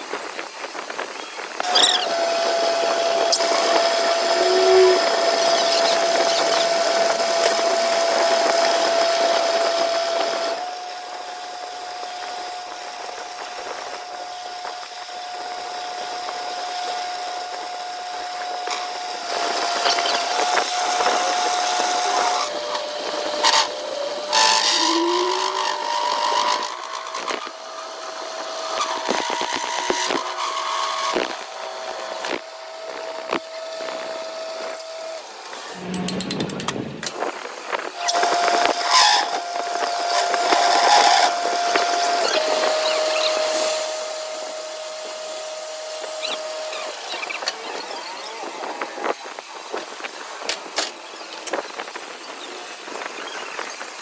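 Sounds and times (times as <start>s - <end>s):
power tool whining: 1.2s - 37.3s, 38.0s - 48.8s.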